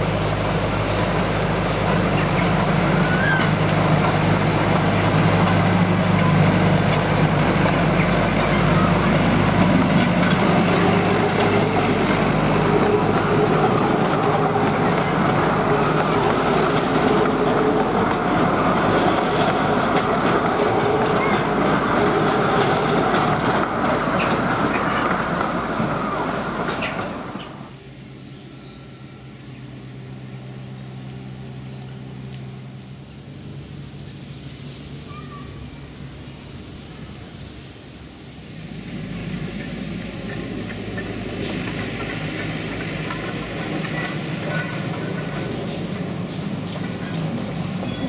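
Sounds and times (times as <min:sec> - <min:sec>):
train wheels clattering on rails: 0:00.0 - 0:27.7, 0:35.0 - 0:48.0
diesel locomotive engine running: 0:00.0 - 0:48.0.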